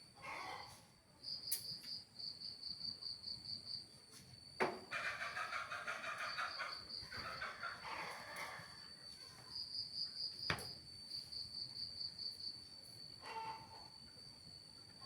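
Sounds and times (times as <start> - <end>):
cricket chirring: 1.2 - 3.9, 4.5 - 15.0.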